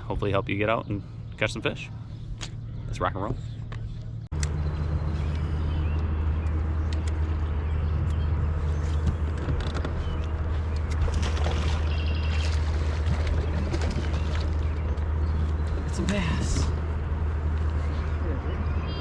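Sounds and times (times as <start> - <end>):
outboard motor running: 0.0 - 17.1.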